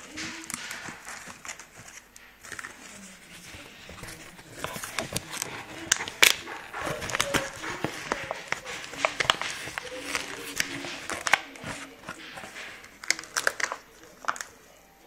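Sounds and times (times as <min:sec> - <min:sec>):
cardboard rustling: 0:00.0 - 0:14.6.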